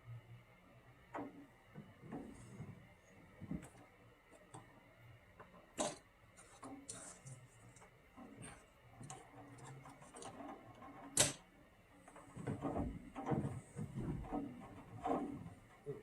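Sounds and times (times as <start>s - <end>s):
faint irregular clicks and taps: 1.1s - 16.0s.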